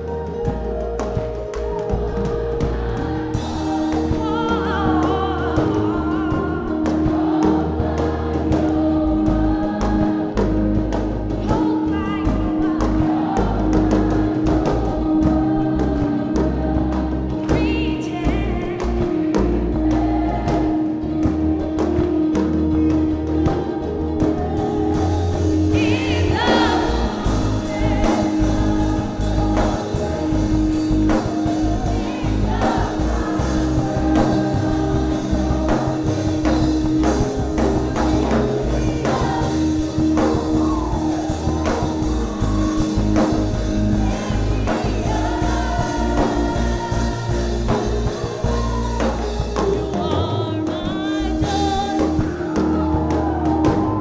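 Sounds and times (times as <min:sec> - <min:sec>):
bass notes: 0:00.0 - 0:54.0
gospel choir singing: 0:00.0 - 0:54.0
keyboard notes: 0:00.0 - 0:54.0
steady drum beat: 0:00.0 - 0:54.0.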